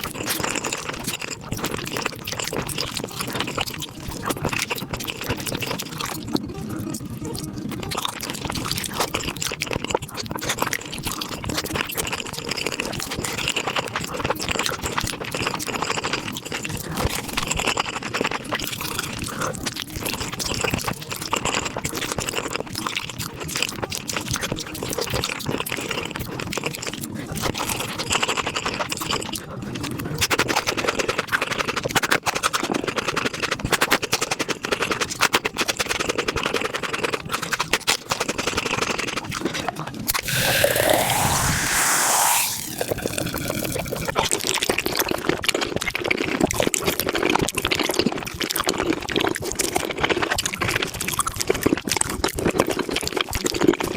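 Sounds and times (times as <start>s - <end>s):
chewing and slurping: 0.0s - 53.9s.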